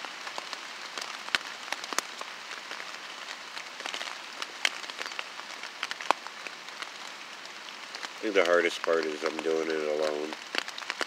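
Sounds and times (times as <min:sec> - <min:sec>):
raindrops ticking on microphone: 0:00.0 - 0:11.0
steady rain: 0:00.0 - 0:11.0.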